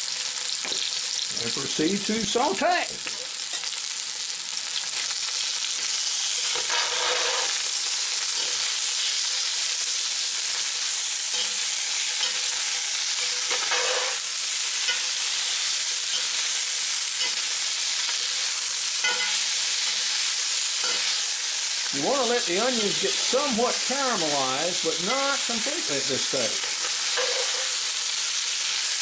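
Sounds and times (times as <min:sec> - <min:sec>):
meat and onions sizzling in oil: 0:00.0 - 0:29.0.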